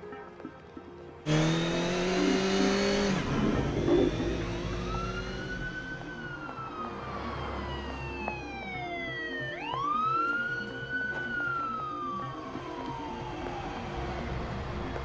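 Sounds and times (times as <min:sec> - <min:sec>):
siren wailing: 0:01.8 - 0:15.0.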